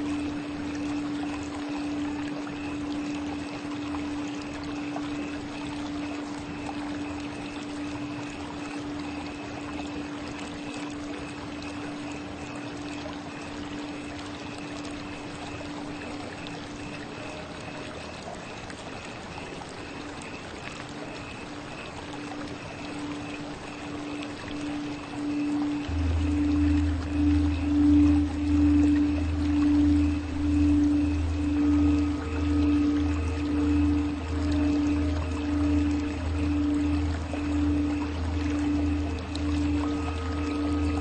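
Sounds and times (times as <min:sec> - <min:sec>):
singing bowl ringing: 0:00.0 - 0:18.6, 0:21.7 - 0:41.0
running water: 0:00.0 - 0:41.0.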